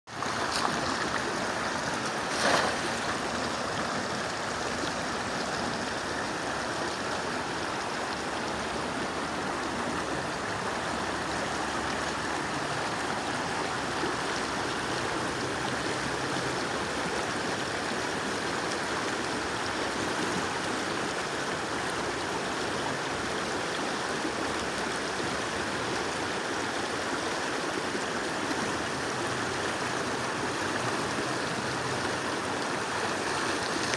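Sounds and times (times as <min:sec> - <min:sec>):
stream water flowing: 0:00.1 - 0:33.9.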